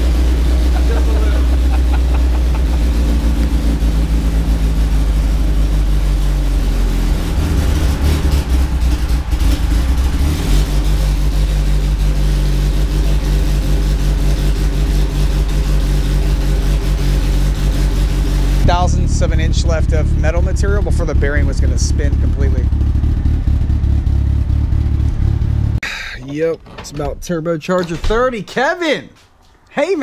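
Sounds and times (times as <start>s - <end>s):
turbocharged engine running: 0.0s - 25.8s.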